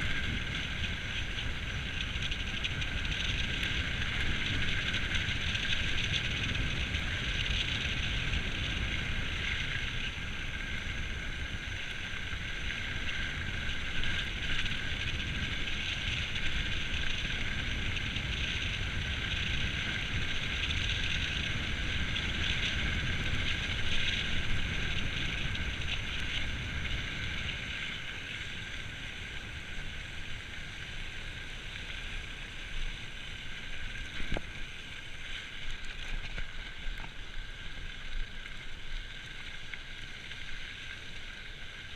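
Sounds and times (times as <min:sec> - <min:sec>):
wind rushing on microphone: 0:00.0 - 0:35.0
bike tyre and frame rattle: 0:00.0 - 0:41.9.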